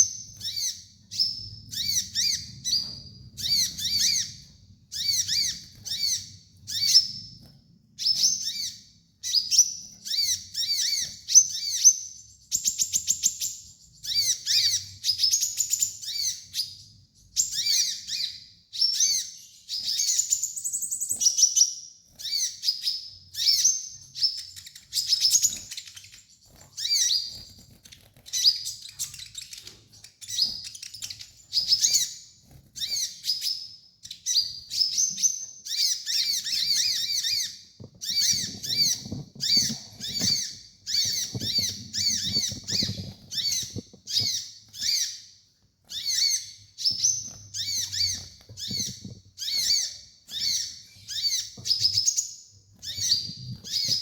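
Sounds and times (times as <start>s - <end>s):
sunbird high-pitched chirping song: 0.0s - 54.0s.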